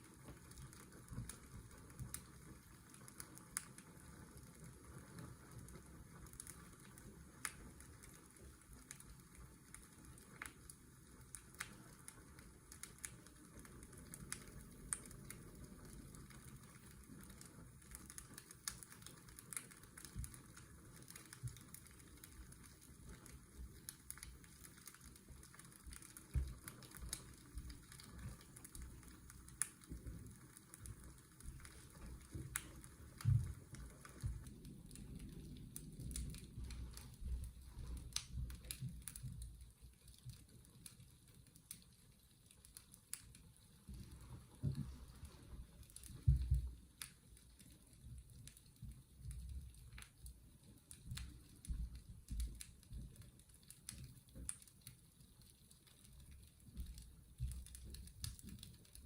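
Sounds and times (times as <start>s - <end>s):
fireplace crackling: 0.0s - 59.0s.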